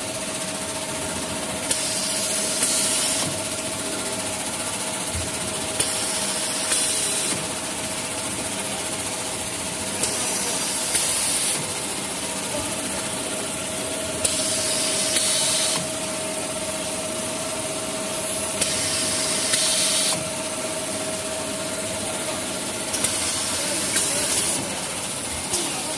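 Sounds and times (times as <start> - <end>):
cutting machine hum and whine: 0.0 - 25.9.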